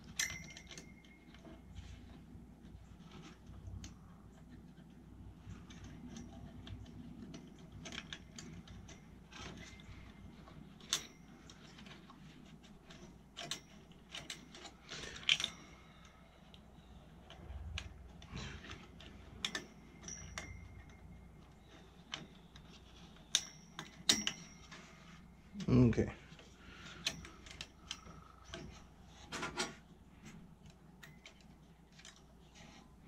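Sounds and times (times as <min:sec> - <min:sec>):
clicks and rattles of computer parts: 0:05.4 - 0:25.2, 0:26.3 - 0:33.0.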